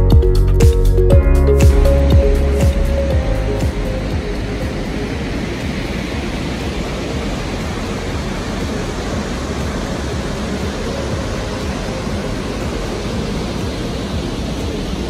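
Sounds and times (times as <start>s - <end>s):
waterfall rushing: 1.7s - 15.0s.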